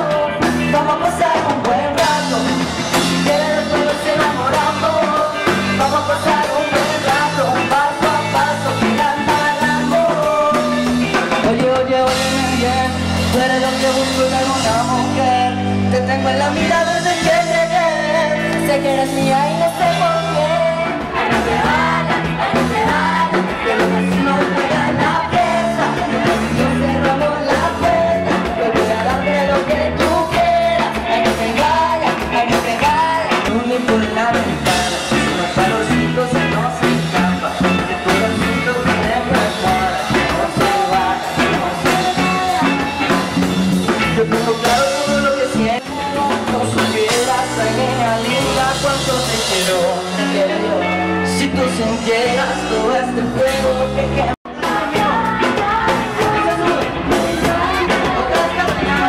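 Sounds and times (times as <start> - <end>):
band music with beat and bass: 0.0 - 59.0
person singing: 0.0 - 59.0.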